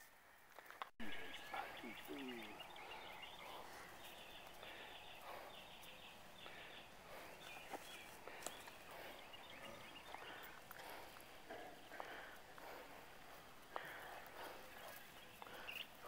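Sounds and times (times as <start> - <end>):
distant bird calling: 1.0 - 16.0.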